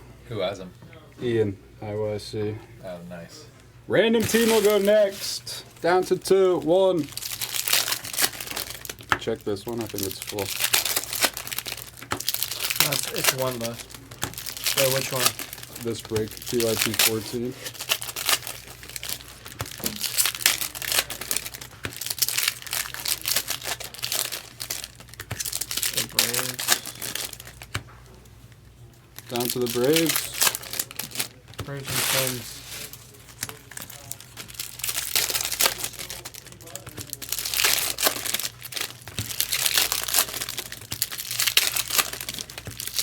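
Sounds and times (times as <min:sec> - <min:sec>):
foil wrappers crinkling: 0:04.2 - 0:43.0.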